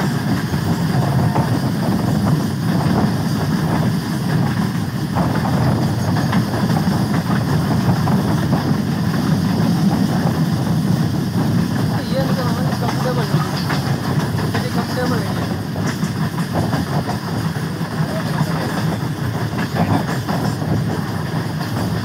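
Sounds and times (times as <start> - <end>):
diesel train rumble: 0.0 - 22.0.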